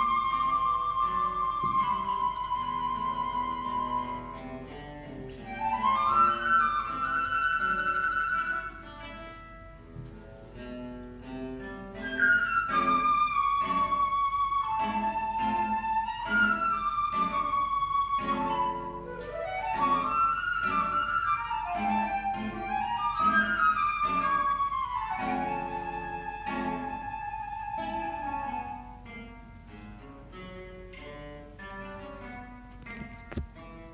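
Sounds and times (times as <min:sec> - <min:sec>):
flute melody: 0:00.0 - 0:09.4, 0:11.6 - 0:29.4
plucked guitar chords: 0:00.0 - 0:33.9.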